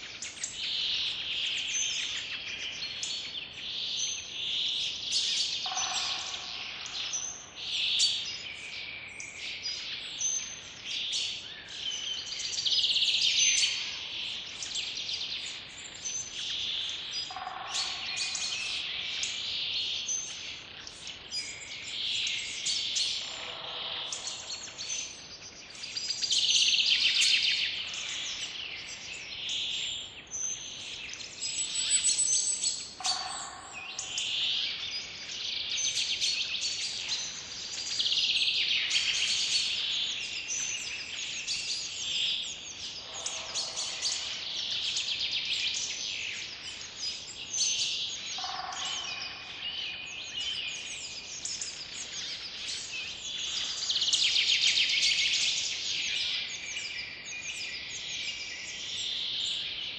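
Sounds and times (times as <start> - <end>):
songbirds chirping chorus: 0.0 - 59.9.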